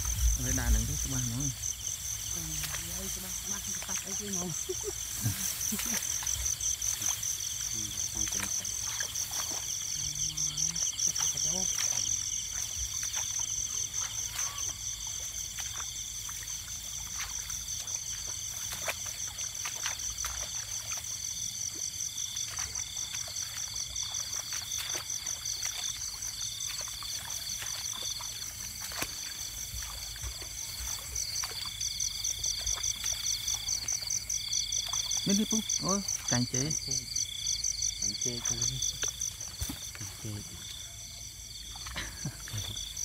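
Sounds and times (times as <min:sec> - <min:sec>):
lower insect trill: 0:00.0 - 0:43.0
night insects trilling: 0:00.0 - 0:43.0
rustling through tall grass: 0:00.0 - 0:43.0.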